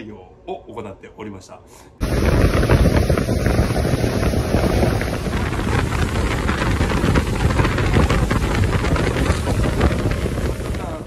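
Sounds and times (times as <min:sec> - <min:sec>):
outboard motor running: 0:02.0 - 0:11.0
water rushing along hull: 0:02.0 - 0:11.0
wind buffeting microphone: 0:02.0 - 0:11.0.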